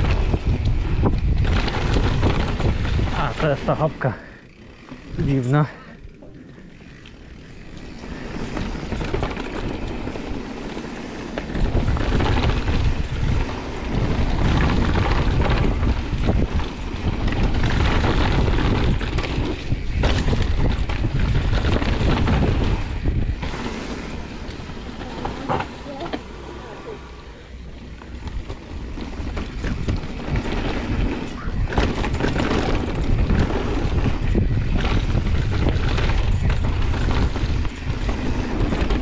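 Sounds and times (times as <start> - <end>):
bike rattle: 0.0 - 39.0
tyres rolling over dirt trail: 0.0 - 39.0
wind buffeting microphone: 0.0 - 39.0.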